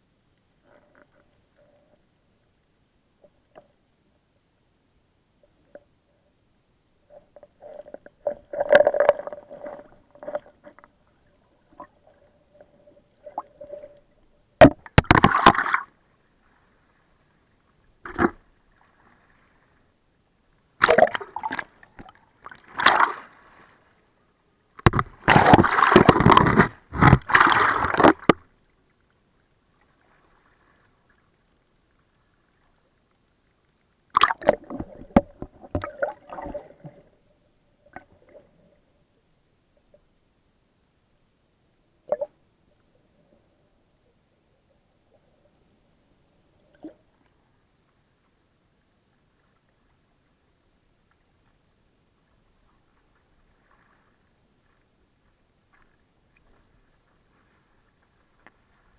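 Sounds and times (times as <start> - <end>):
faint steady hum: 0.0 - 58.9
muffled underwater water sloshing: 7.0 - 40.2, 42.0 - 58.9.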